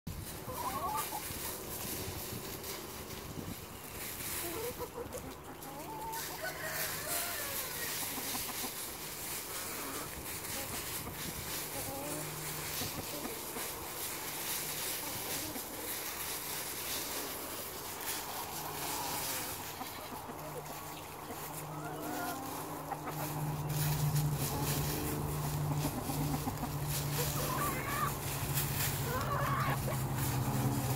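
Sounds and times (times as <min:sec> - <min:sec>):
dry leaves crackling and rustling: 0:00.1 - 0:30.9
hens clucking: 0:00.1 - 0:30.9.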